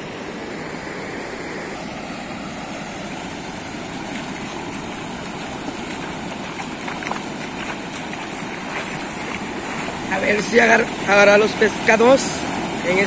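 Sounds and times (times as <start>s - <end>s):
ocean waves washing on beach: 0.0s - 13.0s.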